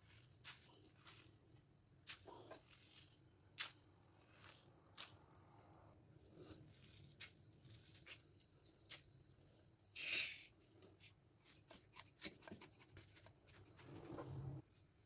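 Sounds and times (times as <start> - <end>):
wet squishing of grated radish: 0.0 - 12.2.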